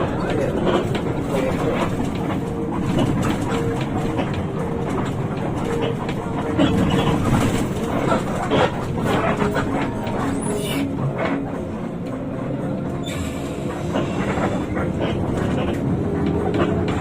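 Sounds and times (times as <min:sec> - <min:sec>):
rattles and clicks: 0:00.0 - 0:13.0, 0:13.6 - 0:17.0
bus engine rumble: 0:00.0 - 0:17.0.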